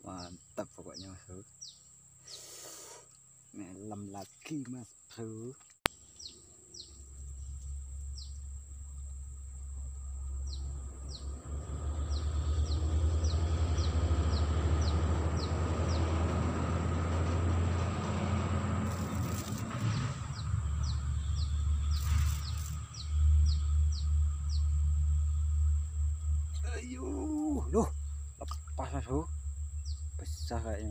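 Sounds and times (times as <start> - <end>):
high insect drone: 0.0 - 30.9.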